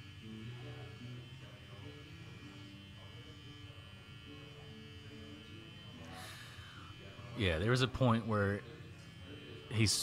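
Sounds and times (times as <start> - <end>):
faint electrical buzz: 0.0 - 10.0.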